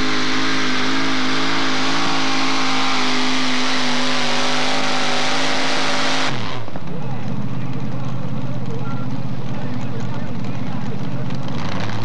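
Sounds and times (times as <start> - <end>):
supercharged engine at full throttle: 0.0 - 12.0.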